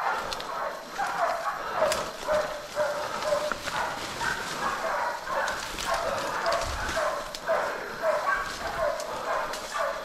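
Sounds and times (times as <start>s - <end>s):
dog barking: 0.0s - 10.0s
twigs and leaves crackling underfoot: 0.0s - 10.0s.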